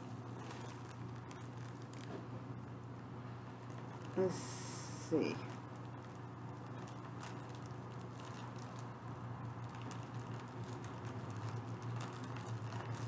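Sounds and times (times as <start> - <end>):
plastic packaging crinkling: 0.0 - 13.0
steady low hum: 0.0 - 13.0.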